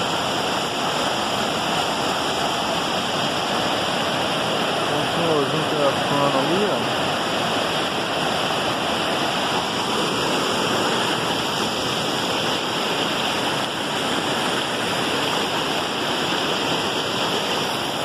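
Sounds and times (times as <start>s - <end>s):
river rapids rushing over rocks: 0.0s - 18.0s.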